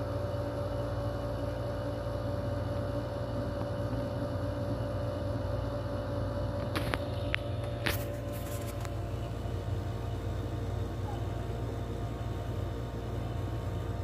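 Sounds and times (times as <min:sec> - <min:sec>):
machine hum with low rumble: 0:00.0 - 0:14.0.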